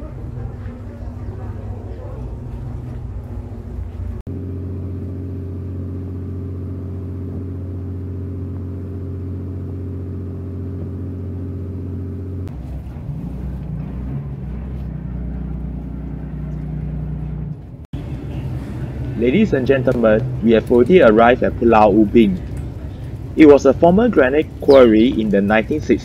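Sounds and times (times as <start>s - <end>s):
boat engine droning: 0.0s - 26.0s
lower engine note: 0.0s - 26.0s.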